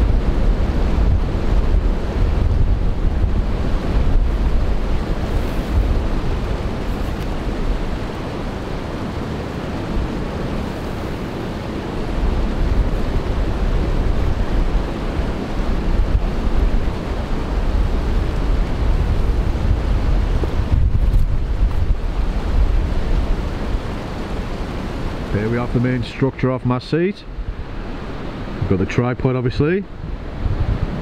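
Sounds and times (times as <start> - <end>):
wind buffeting microphone: 0.0 - 28.9, 29.5 - 31.0.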